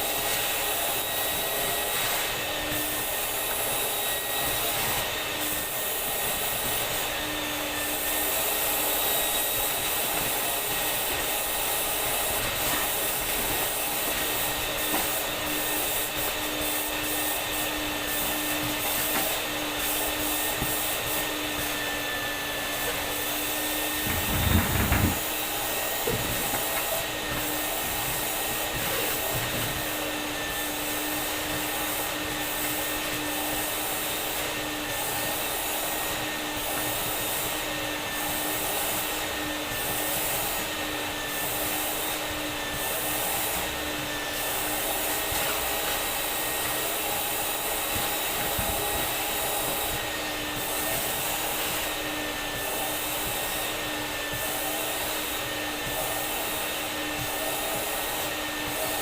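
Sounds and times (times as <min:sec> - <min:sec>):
vacuum cleaner motor humming: 0:00.0 - 0:59.0.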